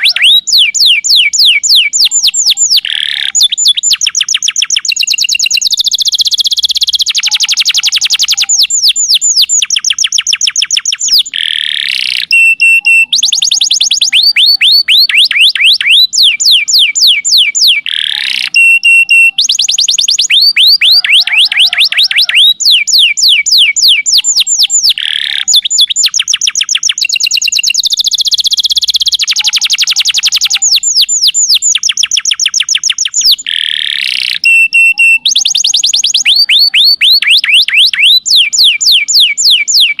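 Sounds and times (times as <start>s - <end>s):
canary singing trilled song: 0.0s - 40.0s.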